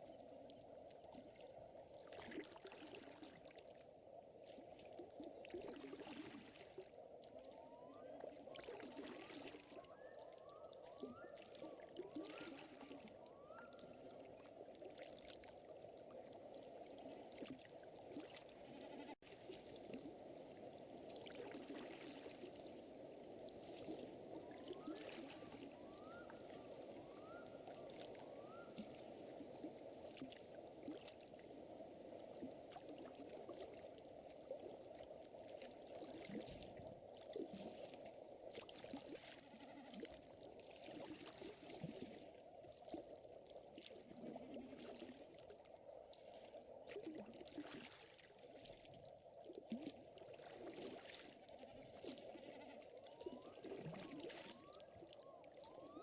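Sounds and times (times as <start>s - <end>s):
soft wash of air or water: 0.0s - 56.0s.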